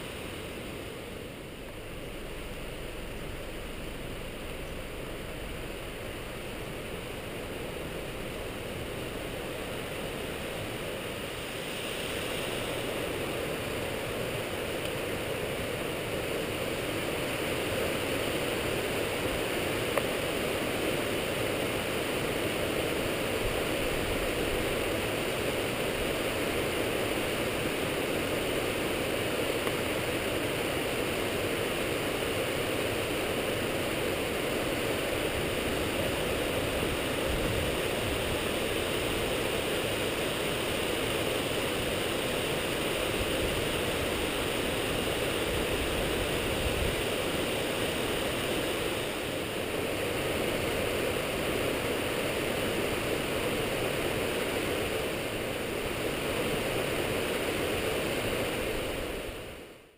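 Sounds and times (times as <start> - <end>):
waterfall rushing: 0.0 - 59.6.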